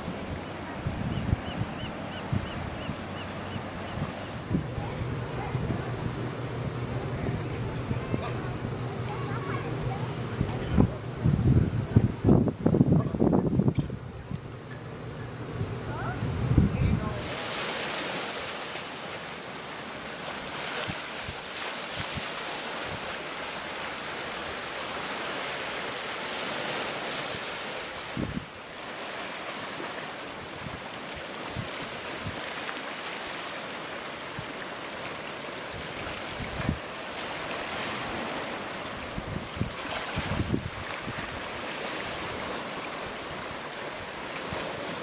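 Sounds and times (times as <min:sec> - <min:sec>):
surf washing over rocks: 0:00.0 - 0:13.6, 0:15.4 - 0:45.0.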